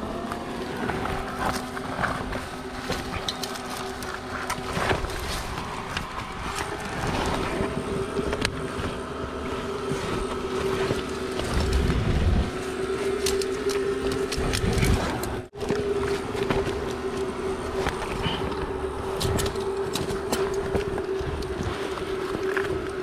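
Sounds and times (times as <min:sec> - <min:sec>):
branches rustling against camera: 0:00.0 - 0:23.0
steady hum: 0:00.0 - 0:23.0.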